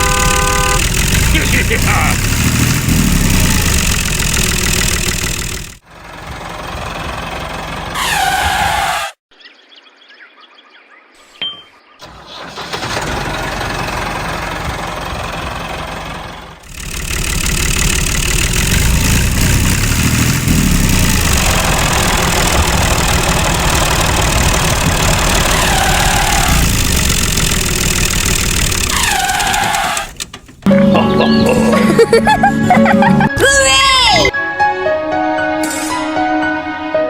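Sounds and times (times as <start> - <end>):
tractor engine starting and running: 0.0 - 8.8, 12.0 - 34.1.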